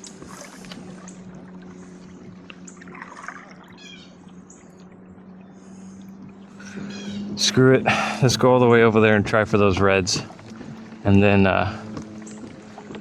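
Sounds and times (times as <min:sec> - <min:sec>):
birds chirping: 0:00.0 - 0:12.8
steady low hum: 0:00.0 - 0:13.0
water lapping against a hull: 0:00.0 - 0:13.0.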